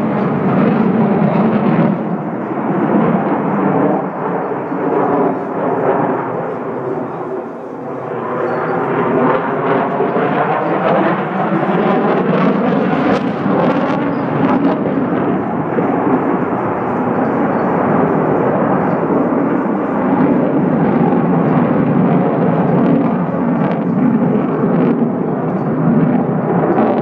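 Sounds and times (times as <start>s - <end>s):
fighter jet engines roaring: 0.0s - 27.0s.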